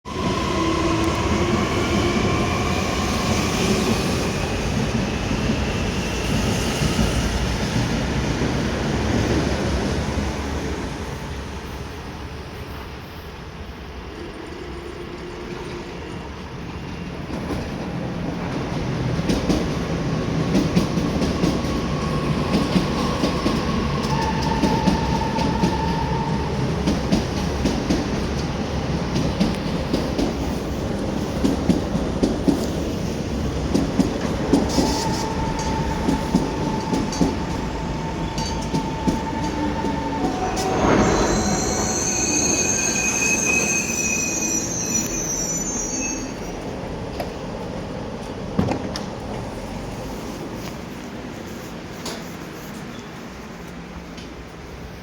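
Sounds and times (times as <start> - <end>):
train running on rails: 0.1 - 55.0.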